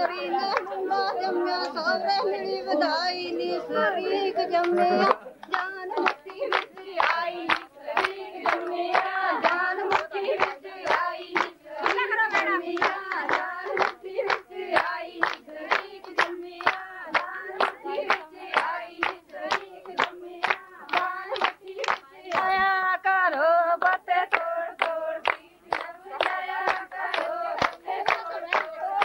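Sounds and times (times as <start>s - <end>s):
rhythmic hand-clapping: 0.0s - 1.8s, 4.1s - 29.0s
group of women singing: 0.0s - 29.0s.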